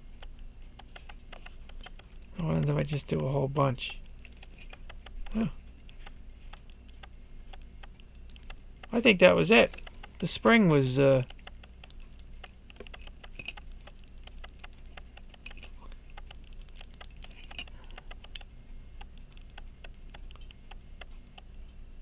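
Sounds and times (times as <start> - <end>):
pocket watch ratchet clicks: 0.2 - 3.2, 3.9 - 10.2, 11.2 - 21.5.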